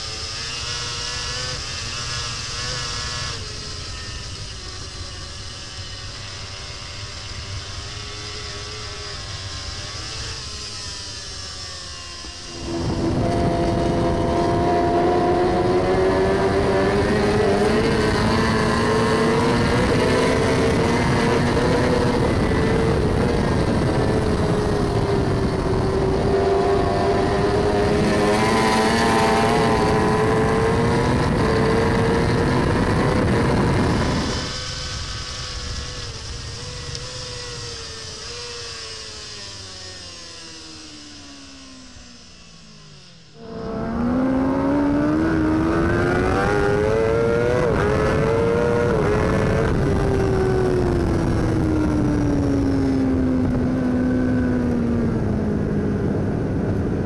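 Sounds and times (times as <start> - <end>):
motorcycle engine at high revs: 0.0 - 57.0
wind and road rush: 0.0 - 57.0.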